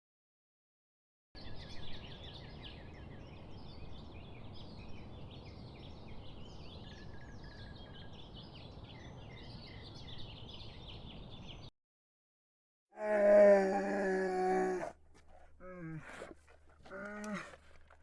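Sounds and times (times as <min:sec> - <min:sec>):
birds chirping chorus: 0:01.4 - 0:11.7, 0:13.0 - 0:18.0.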